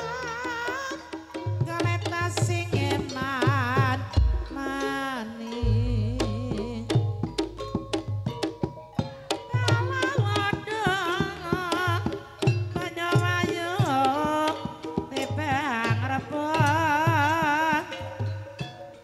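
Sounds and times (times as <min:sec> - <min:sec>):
person singing with vibrato: 0:00.0 - 0:07.6, 0:09.5 - 0:19.0
hand drum strokes: 0:00.0 - 0:18.8.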